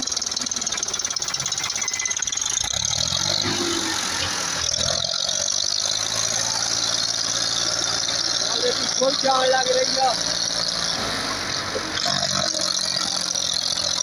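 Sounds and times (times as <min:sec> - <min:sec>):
tractor engine knocking: 0:00.0 - 0:14.0.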